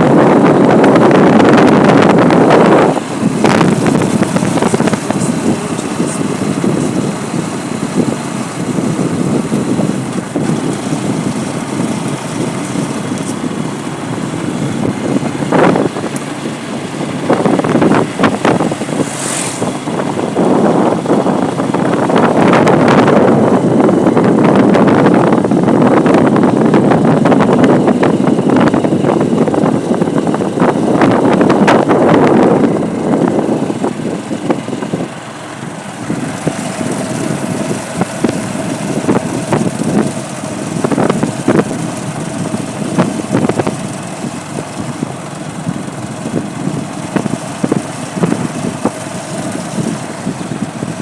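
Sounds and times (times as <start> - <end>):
motor vehicle running: 0.0 - 51.0.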